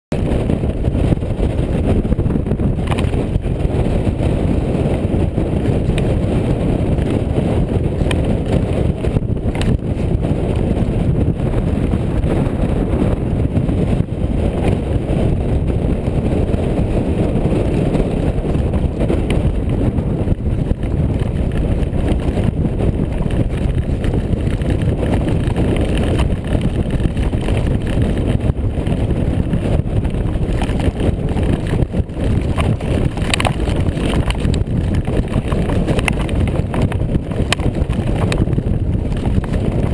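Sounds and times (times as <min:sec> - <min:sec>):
wind buffeting microphone: 0:00.1 - 0:39.9
bike rattling over stones: 0:00.2 - 0:39.9.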